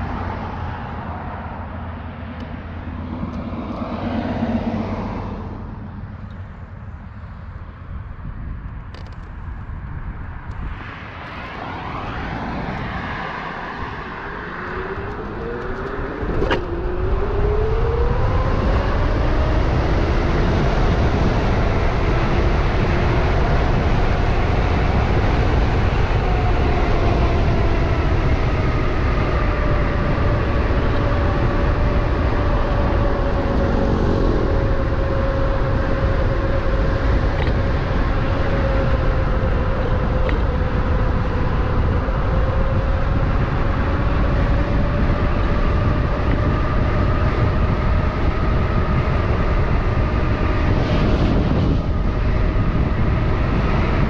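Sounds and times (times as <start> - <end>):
wind rumble on microphone: 0.0 - 54.0
electric hub motor whining: 2.4 - 54.0.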